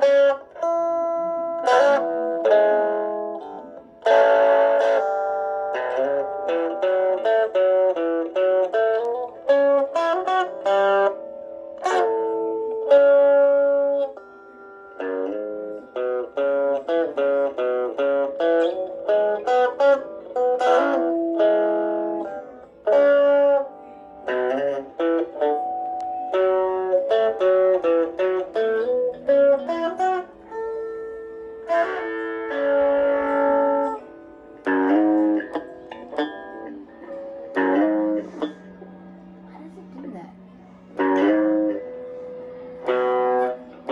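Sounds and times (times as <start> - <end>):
electric guitar playing: 0.0 - 43.9.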